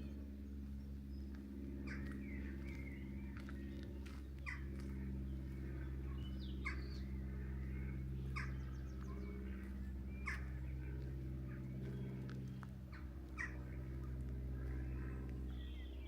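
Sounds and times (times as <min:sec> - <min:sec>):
faint birdsong: 0:00.0 - 0:16.0
steady low hum: 0:00.0 - 0:16.0.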